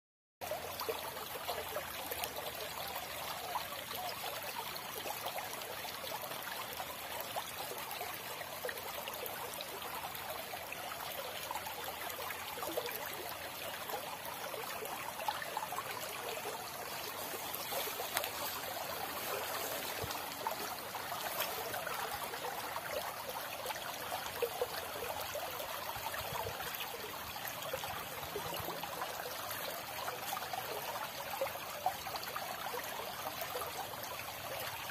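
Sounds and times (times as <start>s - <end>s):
stream flowing over stones: 0.4s - 34.9s.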